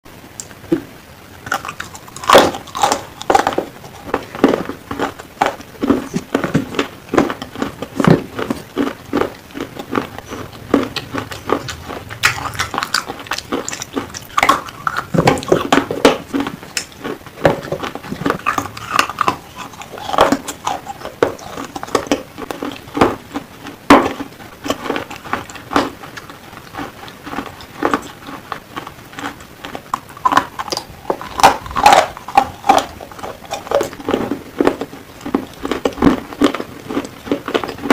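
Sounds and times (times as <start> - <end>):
person chewing crunchy pencil: 0.4 - 37.9.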